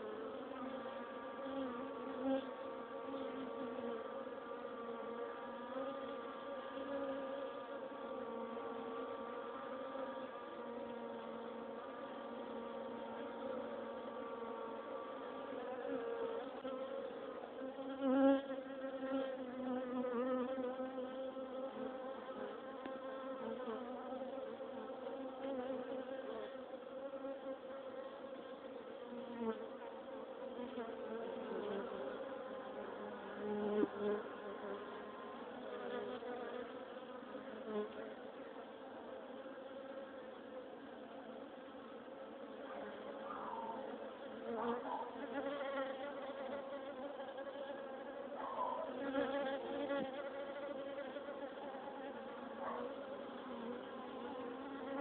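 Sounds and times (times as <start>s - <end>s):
honeybees buzzing: 0.0s - 40.4s, 41.4s - 55.0s.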